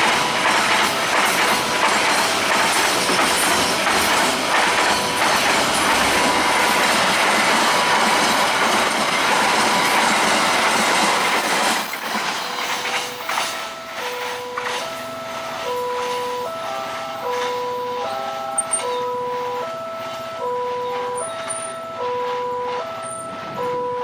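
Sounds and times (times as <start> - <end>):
train wheels clacking over rail joints: 0.0 - 23.8
level crossing two-tone warning: 0.0 - 24.0
train passing at speed: 0.0 - 24.0.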